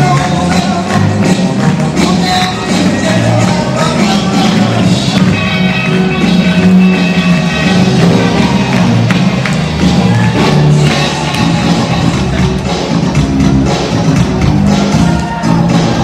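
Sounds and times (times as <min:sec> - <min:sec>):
loud dance music: 0:00.0 - 0:16.0.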